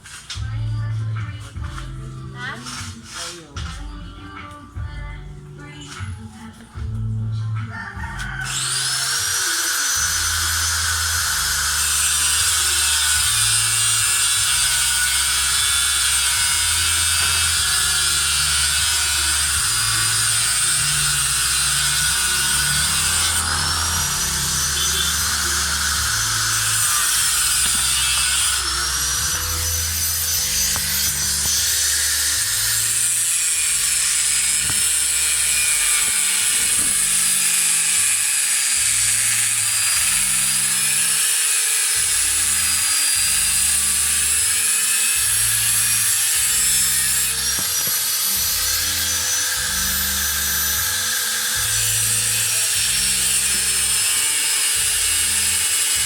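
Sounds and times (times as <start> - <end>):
bass-heavy music: 0.0 - 38.2, 38.8 - 41.2, 42.0 - 44.5, 45.2 - 56.0
power tool whining: 8.2 - 56.0.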